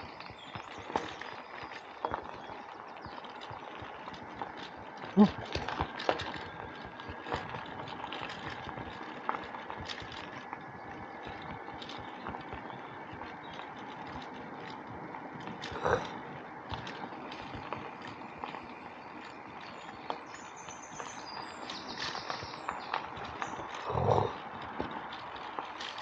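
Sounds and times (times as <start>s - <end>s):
bicycle tyres rolling: 0.0s - 26.0s
bike rattles and clicks: 0.0s - 26.0s.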